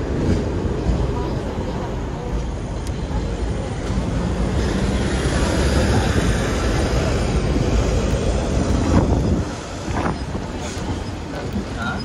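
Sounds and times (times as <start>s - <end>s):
tram wheels and motor rumbling: 0.0s - 12.0s.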